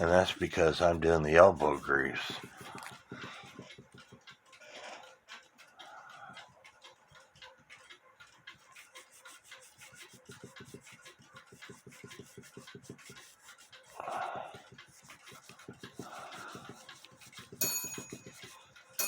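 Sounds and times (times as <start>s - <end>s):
scrubbing on metal: 0.0s - 6.3s, 8.5s - 19.0s.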